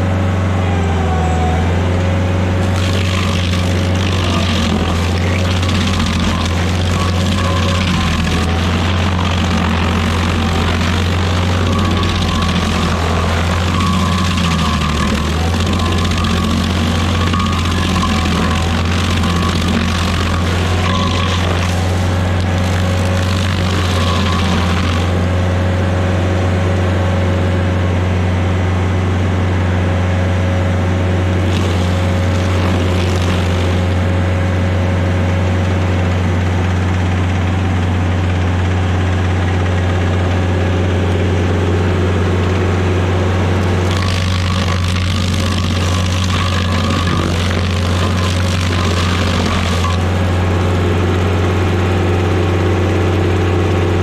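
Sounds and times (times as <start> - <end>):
stump grinder engine running: 0.0 - 54.0
cutter wheel grinding stump: 2.4 - 26.0, 31.0 - 36.2, 39.3 - 54.0.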